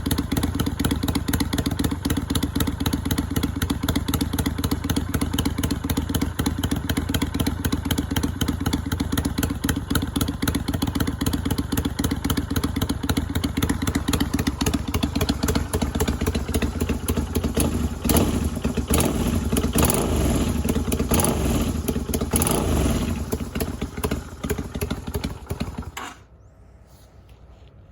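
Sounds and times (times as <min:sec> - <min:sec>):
motorcycle engine idling: 0:00.0 - 0:26.5.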